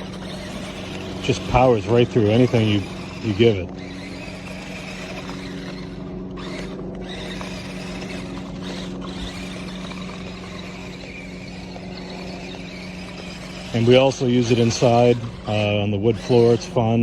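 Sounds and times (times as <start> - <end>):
electric toy motor whining: 0.0 - 17.0.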